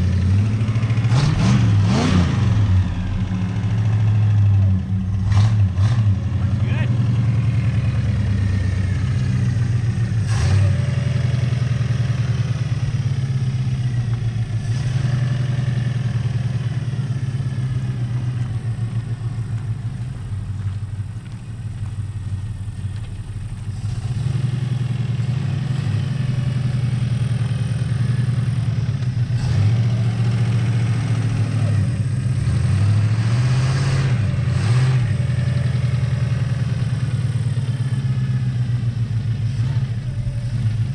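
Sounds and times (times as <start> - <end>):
car engine running at low speed: 0.0 - 40.9
engine revving: 0.0 - 40.9.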